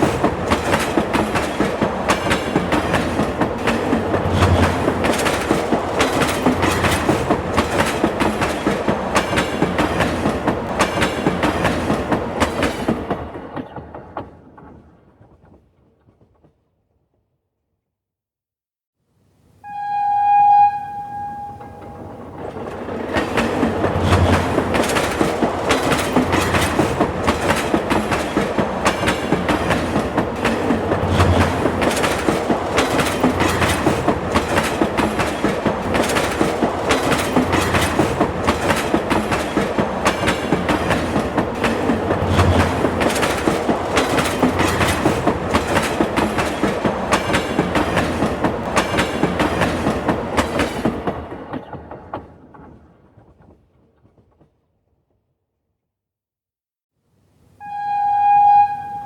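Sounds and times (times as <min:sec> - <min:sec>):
wheels clacking over rail joints: 0:00.0 - 0:15.6, 0:21.6 - 0:54.5
subway train on rails: 0:00.0 - 0:16.6, 0:19.6 - 0:54.7, 0:57.6 - 0:59.0.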